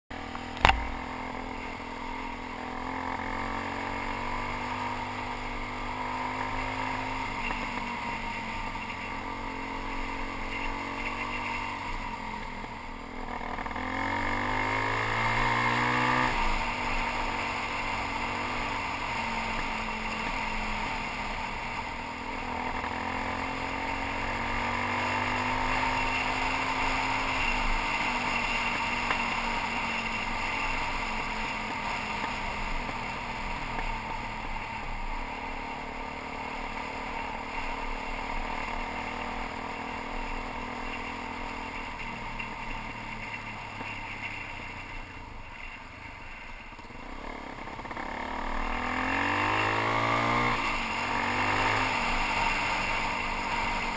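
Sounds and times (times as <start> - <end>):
motorcycle engine running: 0.1 - 53.9.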